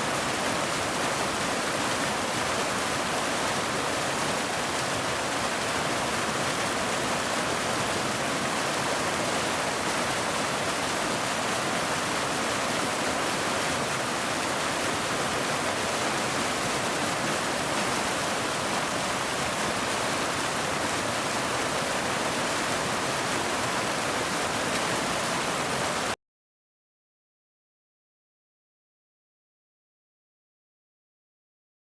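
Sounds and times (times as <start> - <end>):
waterfall rushing: 0.0 - 26.2.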